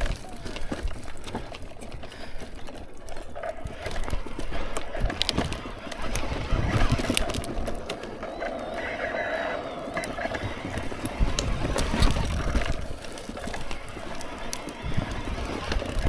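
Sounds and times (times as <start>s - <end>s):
bike drivetrain clicks and rattles: 0.0s - 16.0s
low rumble of tyres: 0.0s - 16.0s.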